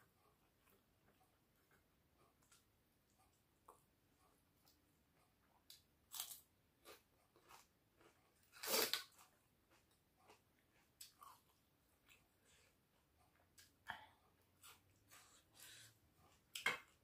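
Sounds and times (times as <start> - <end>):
person chewing: 0.3 - 2.7, 3.3 - 17.0.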